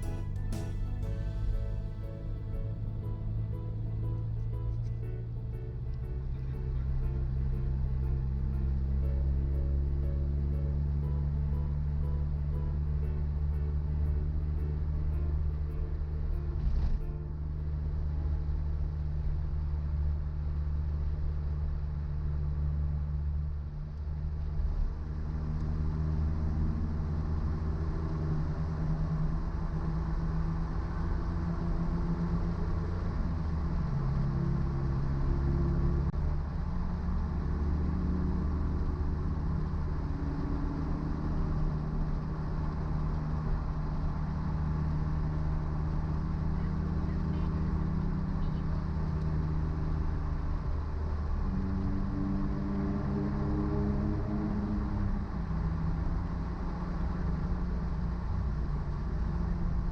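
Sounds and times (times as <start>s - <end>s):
car engine running while driving: 0.0s - 59.9s.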